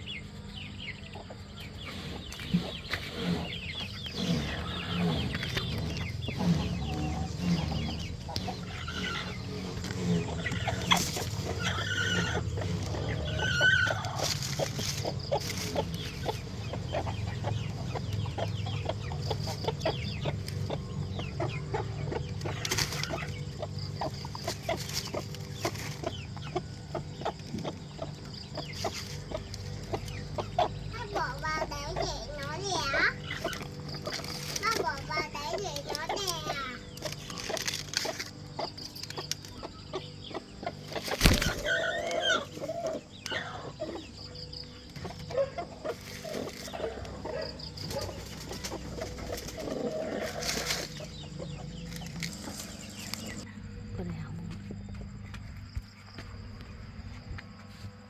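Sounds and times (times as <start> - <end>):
chickens clucking: 0.0 - 58.0
steady low hum: 0.0 - 58.0.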